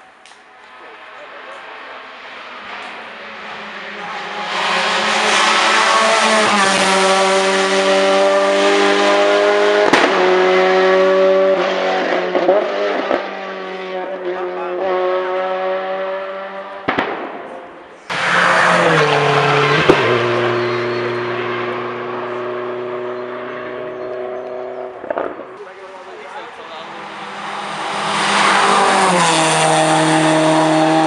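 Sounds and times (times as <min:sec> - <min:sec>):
race car engine revving: 0:00.9 - 0:31.0.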